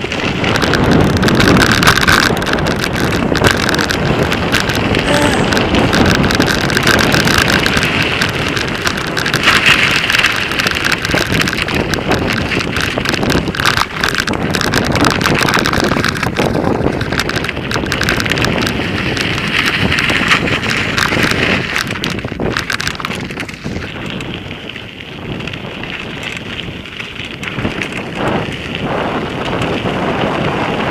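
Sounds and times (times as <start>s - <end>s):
bike rattling and knocking: 0.0s - 30.9s
wind rushing over microphone: 0.0s - 30.9s.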